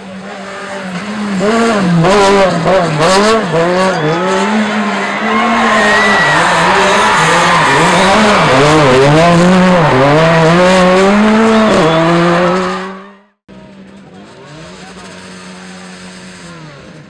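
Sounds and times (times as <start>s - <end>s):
faint engine at steady revs: 0.0s - 5.3s, 6.7s - 17.0s
rally car engine revving: 0.0s - 17.0s.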